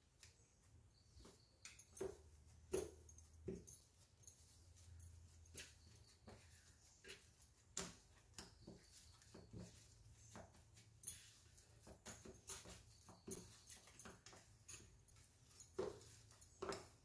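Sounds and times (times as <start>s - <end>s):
dough kneading in steel plate: 2.1s - 17.0s.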